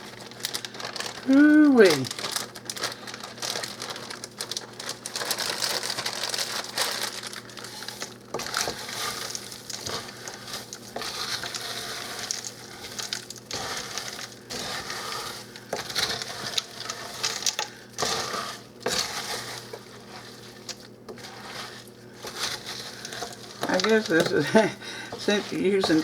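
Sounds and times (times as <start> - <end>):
frozen potatoes stirred in a pot: 0.0 - 26.0.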